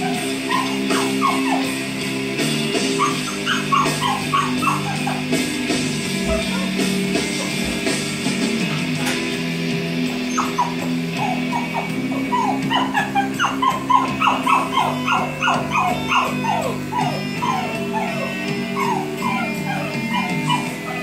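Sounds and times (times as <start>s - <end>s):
dog whining yelps: 0.0s - 2.0s, 2.7s - 7.9s, 10.0s - 21.0s
background music: 0.0s - 21.0s.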